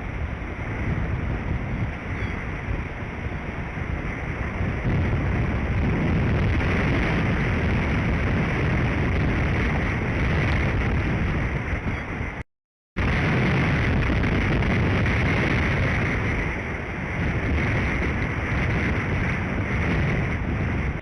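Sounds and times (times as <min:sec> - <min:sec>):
strong wind buffeting microphone: 0:00.0 - 0:12.4, 0:13.0 - 0:21.0.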